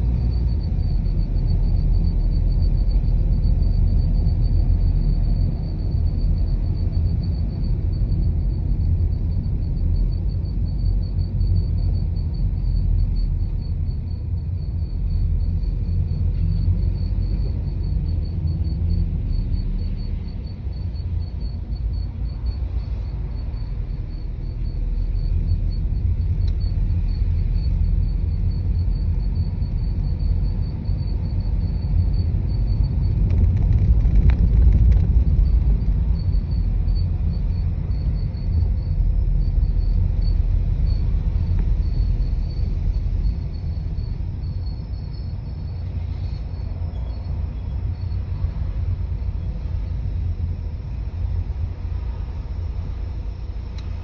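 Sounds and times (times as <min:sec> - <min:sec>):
road rumble in car cabin: 0:00.0 - 0:54.0.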